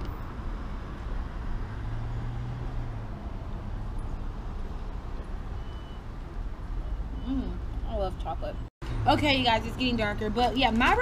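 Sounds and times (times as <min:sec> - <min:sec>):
road traffic rumble: 0:00.0 - 0:11.0
vehicle engine hum: 0:00.0 - 0:11.0.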